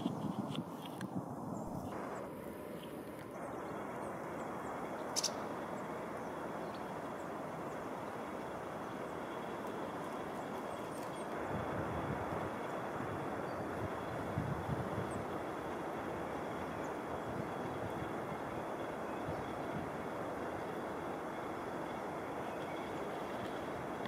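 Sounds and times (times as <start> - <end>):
distant traffic rumble: 0.0 - 24.0.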